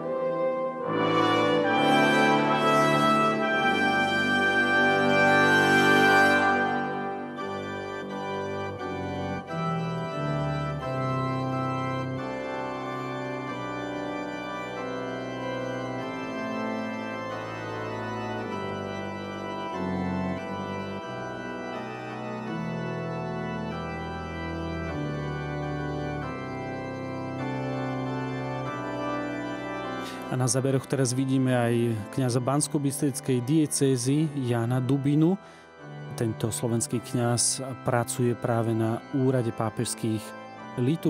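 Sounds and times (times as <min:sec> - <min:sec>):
organ playing slow chords: 0:00.0 - 0:41.0.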